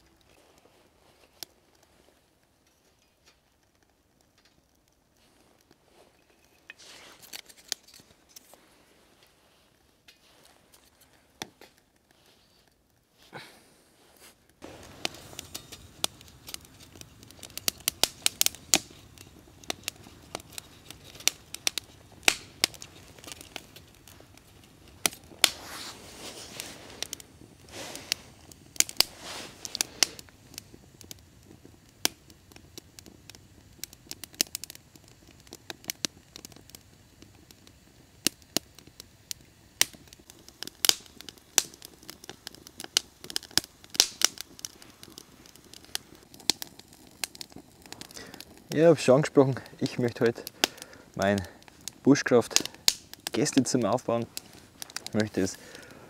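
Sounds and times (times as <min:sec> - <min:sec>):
low fire hiss: 0:00.0 - 0:56.0
wood fire crackling and popping: 0:00.0 - 0:56.0.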